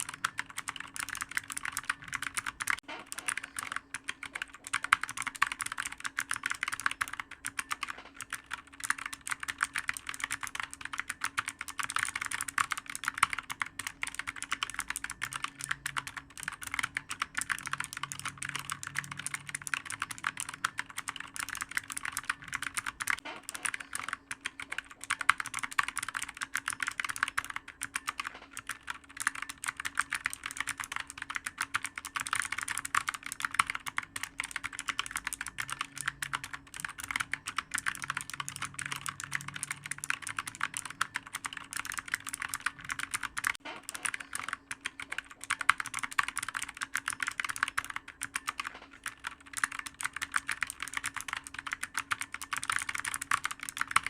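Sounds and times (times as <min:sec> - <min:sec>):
computer keyboard typing: 0:00.0 - 0:54.0.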